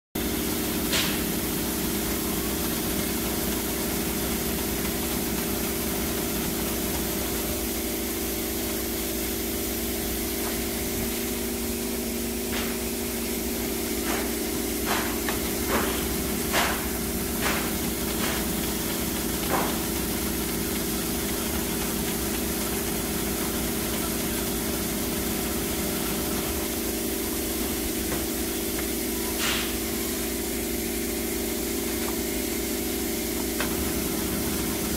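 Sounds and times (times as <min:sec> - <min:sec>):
machine humming and hissing: 0:00.2 - 0:34.9.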